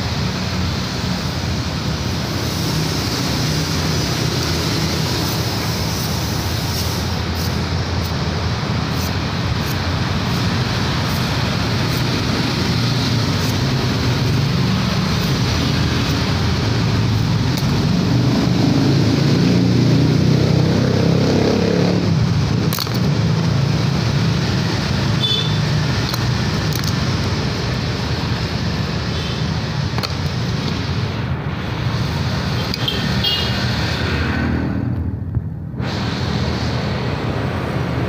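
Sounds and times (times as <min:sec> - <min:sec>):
vehicle passing close by: 0:00.0 - 0:27.6, 0:33.1 - 0:38.0
road traffic noise: 0:00.0 - 0:38.0.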